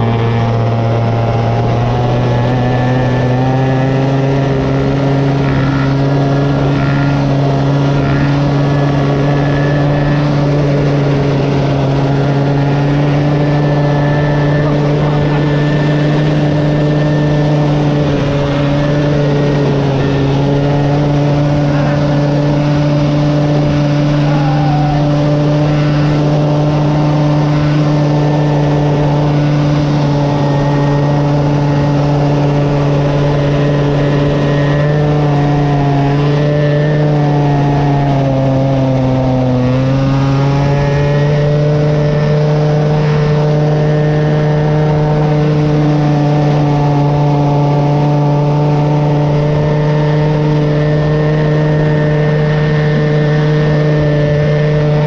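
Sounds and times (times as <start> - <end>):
small vehicle motor running: 0.0 - 55.0.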